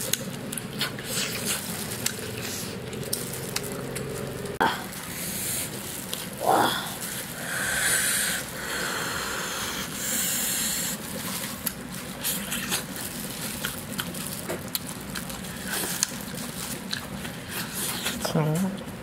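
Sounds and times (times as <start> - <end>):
meat tearing and biting: 0.0 - 7.7, 10.6 - 18.2
plastic gloves rustling: 0.0 - 18.3.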